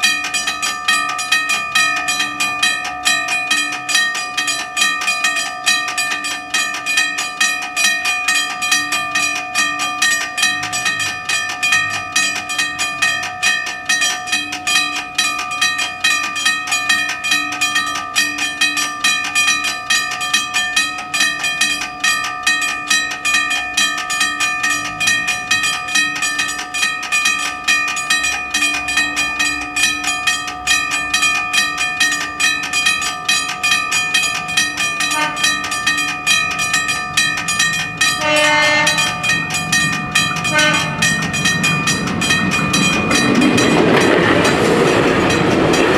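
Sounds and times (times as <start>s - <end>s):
level crossing warning bells ringing: 0.0s - 45.9s.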